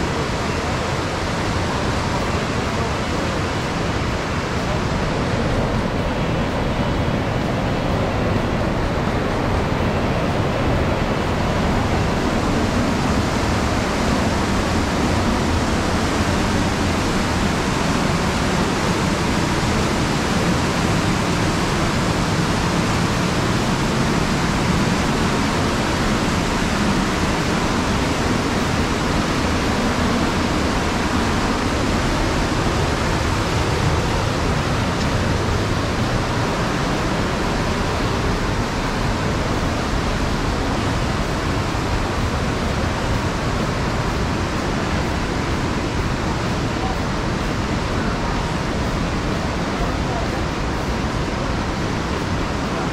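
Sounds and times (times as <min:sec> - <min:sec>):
river rushing over rocks: 0:00.0 - 0:52.9.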